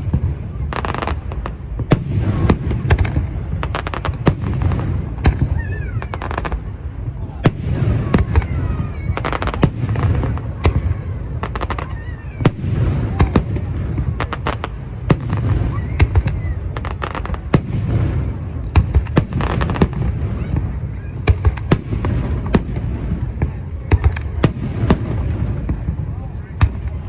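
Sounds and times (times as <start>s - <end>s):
fireworks whistling: 0.0s - 25.9s
fireworks bangs: 0.0s - 27.0s
fireworks crackling: 0.0s - 27.0s.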